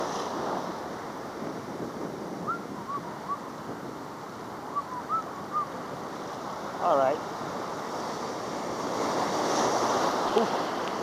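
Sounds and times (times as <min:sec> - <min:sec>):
ocean surf on rocks: 0:00.0 - 0:11.0
wind on microphone: 0:00.0 - 0:11.0.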